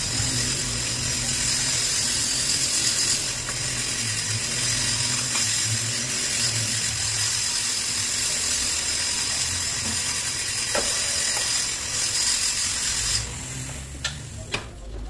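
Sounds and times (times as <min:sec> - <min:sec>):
milling machine running: 0:00.0 - 0:14.4.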